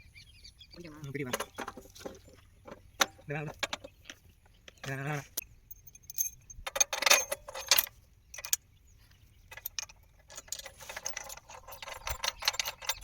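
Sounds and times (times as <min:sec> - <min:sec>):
metal parts clinking and rattling: 0:01.3 - 0:08.7, 0:09.4 - 0:13.0.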